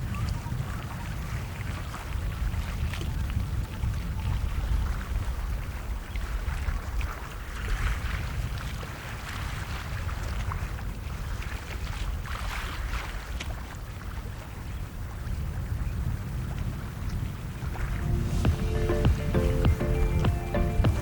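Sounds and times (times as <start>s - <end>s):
low rumble of wind: 0.0s - 18.5s.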